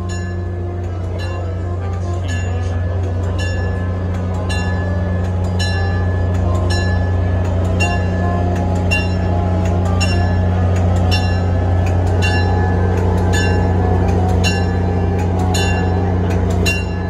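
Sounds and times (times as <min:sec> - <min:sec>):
diesel locomotive rumble: 0:00.0 - 0:17.0
locomotive bell ringing: 0:00.0 - 0:17.0.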